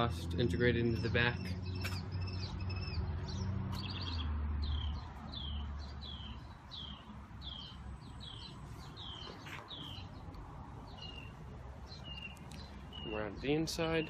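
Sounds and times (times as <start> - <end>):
small bird chirping: 0.3 - 14.0.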